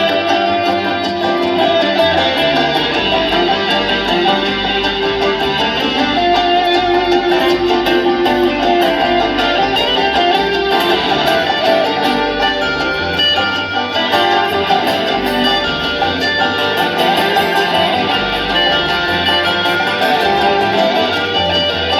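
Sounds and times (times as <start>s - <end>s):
bluegrass string band playing: 0.0s - 21.9s
picked guitar: 0.0s - 21.9s.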